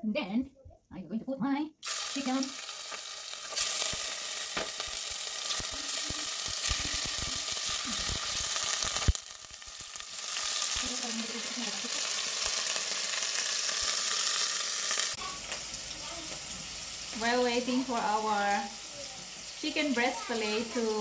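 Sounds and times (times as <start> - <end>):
chicken sizzling in hot oil: 1.8 - 21.0.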